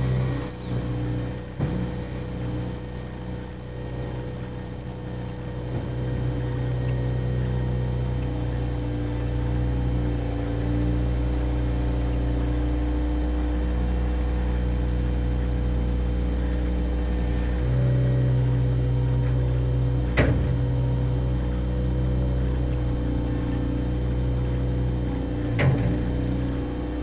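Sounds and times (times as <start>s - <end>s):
loader engine running: 0.0s - 27.0s.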